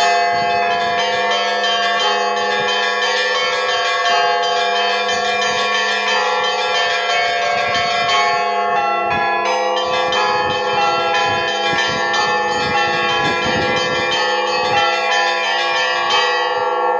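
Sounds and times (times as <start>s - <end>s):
hum of large bells: 0.0s - 16.9s
small church bells ringing: 0.0s - 16.9s.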